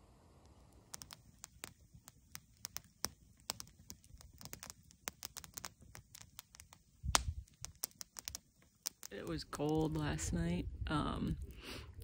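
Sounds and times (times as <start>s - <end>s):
campfire crackling: 0.1s - 12.0s.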